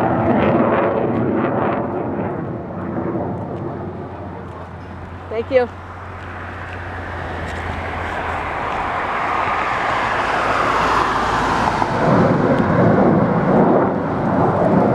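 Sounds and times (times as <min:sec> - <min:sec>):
airplane engine passing overhead: 0:00.0 - 0:14.9.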